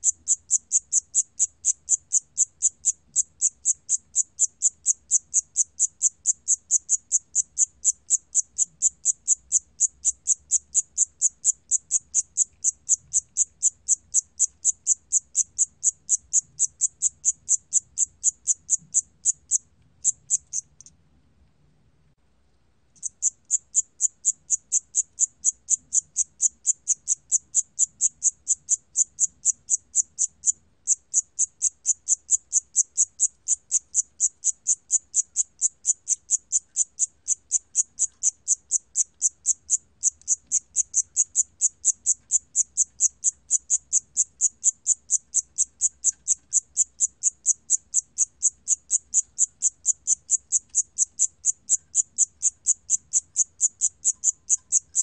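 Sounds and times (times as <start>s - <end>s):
cricket chirping: 0.0s - 21.0s, 23.0s - 55.0s.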